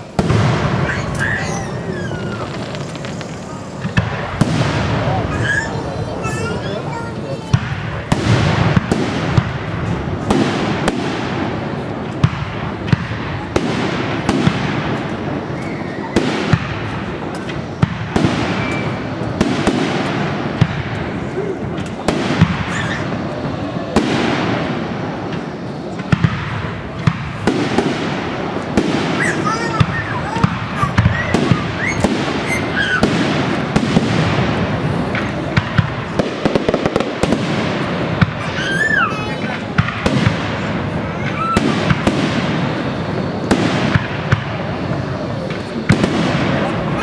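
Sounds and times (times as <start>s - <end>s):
dense fireworks crackle: 0.0s - 47.0s
faint fireworks whistles: 0.0s - 47.0s
fireworks bangs: 0.0s - 47.0s.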